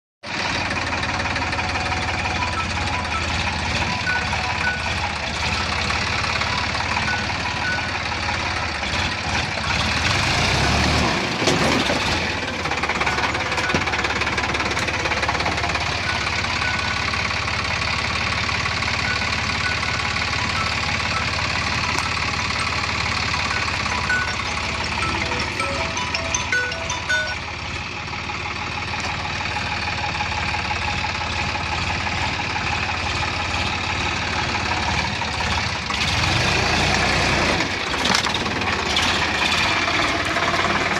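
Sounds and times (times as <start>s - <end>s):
tractor diesel engine running: 0.2s - 40.9s.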